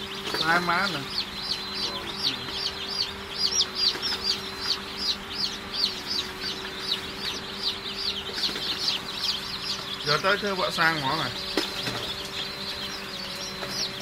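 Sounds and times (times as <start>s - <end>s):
chicks peeping: 0.0s - 14.0s
steady low hum: 0.0s - 14.0s.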